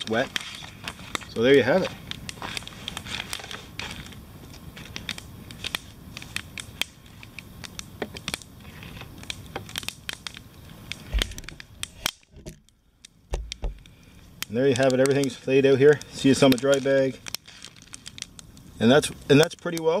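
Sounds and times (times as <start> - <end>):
plastic bags rustling: 0.0 - 20.0
wood fire crackling: 0.0 - 20.0.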